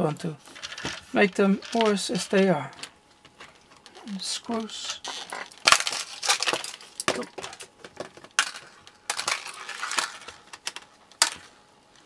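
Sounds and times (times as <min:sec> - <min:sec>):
scraping and handling noise: 0:00.4 - 0:12.0.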